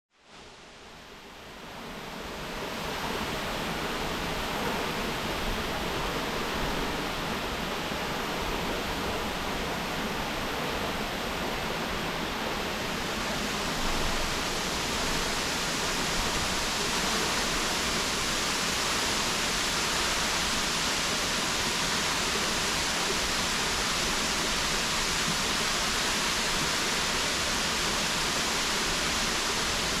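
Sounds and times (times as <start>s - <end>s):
waterfall rushing: 2.4s - 30.0s.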